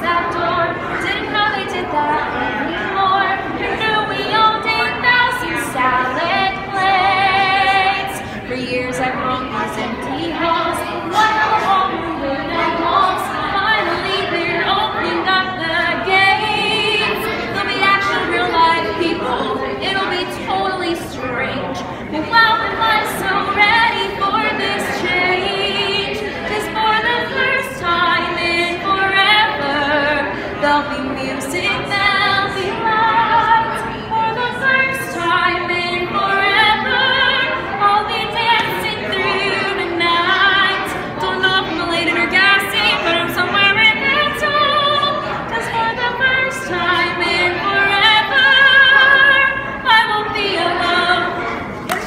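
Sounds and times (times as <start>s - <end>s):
woman singing operatically: 0.0s - 51.5s.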